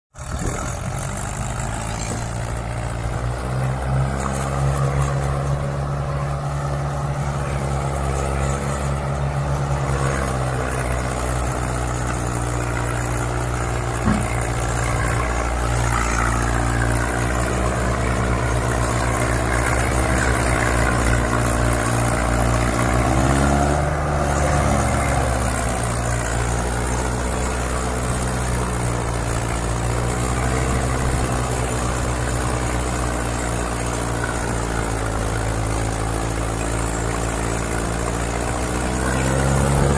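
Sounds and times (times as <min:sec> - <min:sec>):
engine running: 0:00.1 - 0:39.9.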